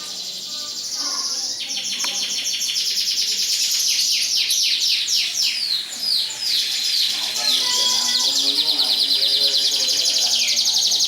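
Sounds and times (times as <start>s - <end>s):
canaries singing: 0.0s - 11.0s.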